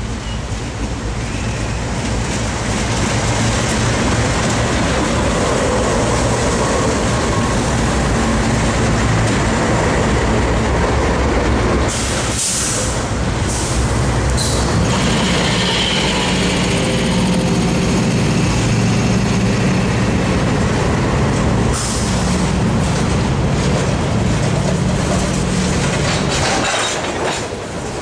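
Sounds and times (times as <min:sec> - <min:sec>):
diesel locomotives engine drone: 0:00.0 - 0:28.0.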